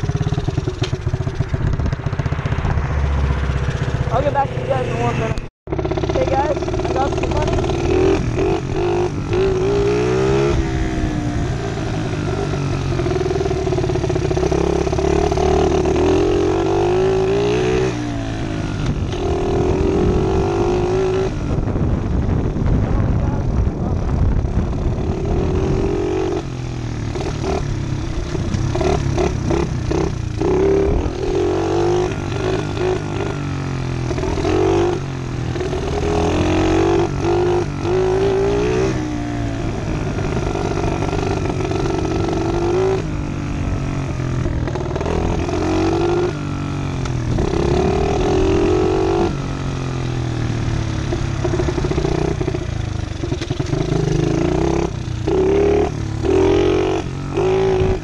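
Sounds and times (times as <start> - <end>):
small motorbike engine revving: 0.0 - 21.7, 24.4 - 58.0.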